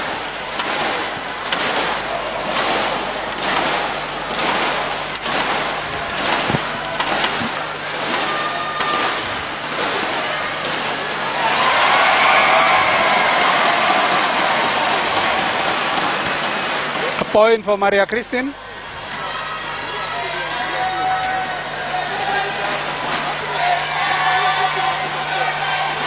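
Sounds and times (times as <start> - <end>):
crowd cheering: 0.0 - 26.0.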